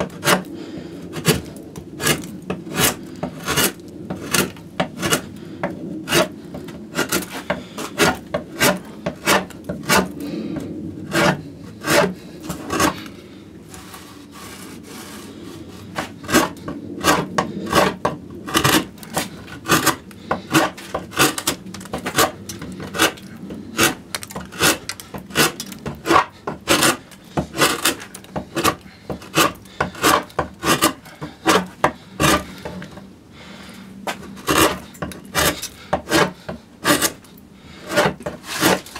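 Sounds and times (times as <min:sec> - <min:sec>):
gouge scraping into wood: 0:00.0 - 0:00.5, 0:01.1 - 0:05.3, 0:06.0 - 0:10.2, 0:11.1 - 0:13.1, 0:13.7 - 0:33.0, 0:34.1 - 0:38.9.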